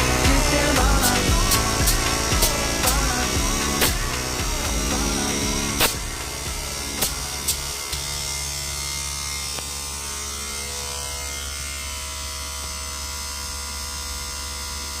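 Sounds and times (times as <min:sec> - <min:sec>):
low hum: 0:00.0 - 0:14.4
electrical buzz: 0:00.0 - 0:15.0.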